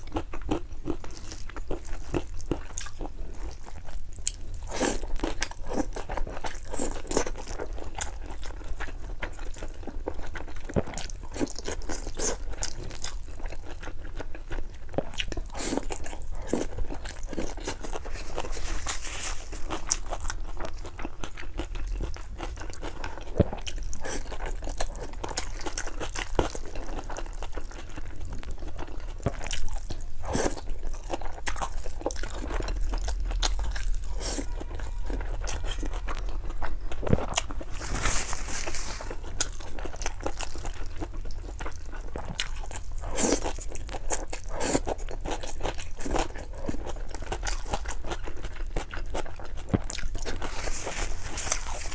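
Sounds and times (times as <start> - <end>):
person chewing noodles: 0.0 - 51.9.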